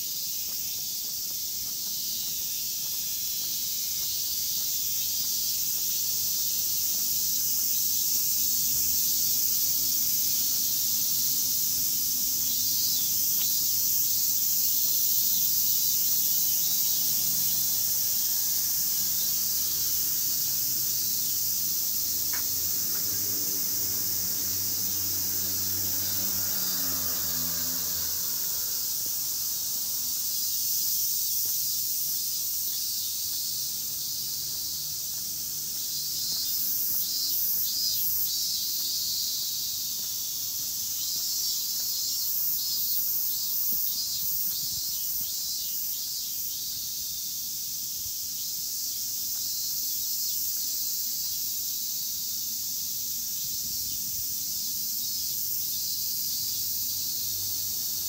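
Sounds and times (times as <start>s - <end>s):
cicadas droning: 0.0s - 58.0s
fast pulsing insect call: 0.0s - 58.0s.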